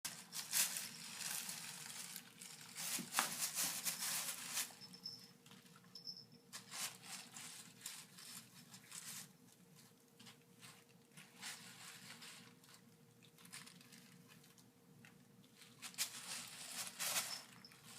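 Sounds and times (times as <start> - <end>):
cat licking crinkling plastic bag: 0.1 - 4.8, 6.6 - 17.9.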